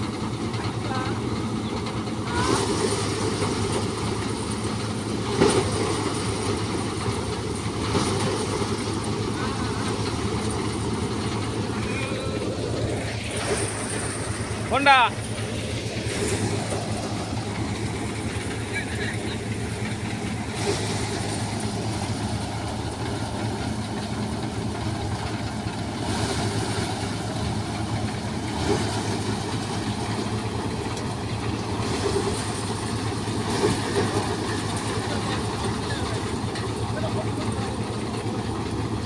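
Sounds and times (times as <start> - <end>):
thresher and tractor engine humming: 0.0 - 39.0
rush of straw into thresher: 2.1 - 39.0.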